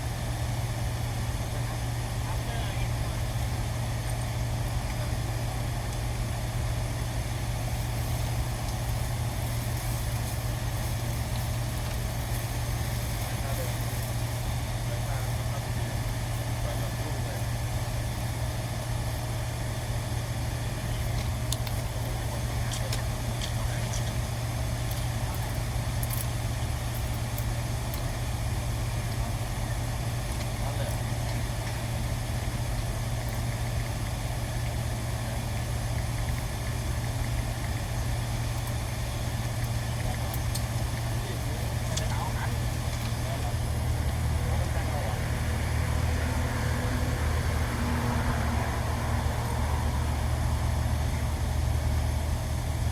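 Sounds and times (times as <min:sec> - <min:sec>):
low machine hum: 0:00.0 - 0:52.9.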